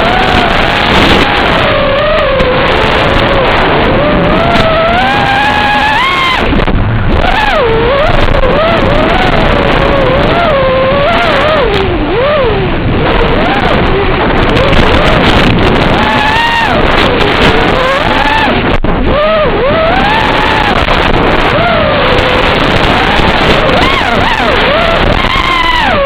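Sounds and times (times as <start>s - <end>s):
drone motors whining: 0.0s - 26.0s
wind on microphone: 0.0s - 26.0s.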